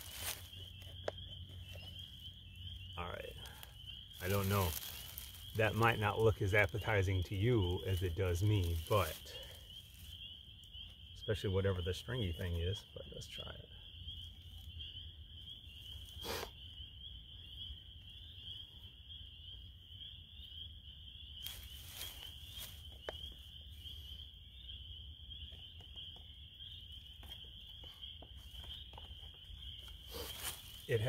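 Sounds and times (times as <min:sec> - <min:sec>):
high-pitched animal chorus: 0:00.0 - 0:31.0.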